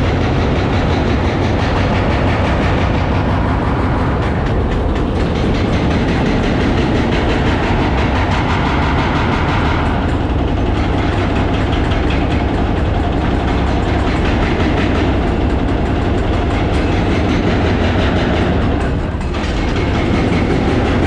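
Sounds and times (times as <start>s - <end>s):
excavators breaking concrete: 0.0s - 21.0s
rapid mechanical rattle: 0.0s - 21.0s.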